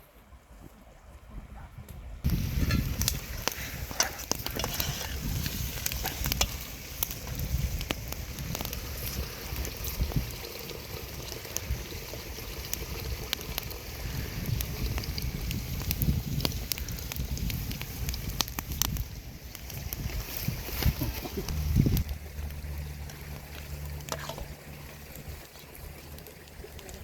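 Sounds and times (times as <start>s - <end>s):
wood fire crackling and popping: 2.2s - 27.0s.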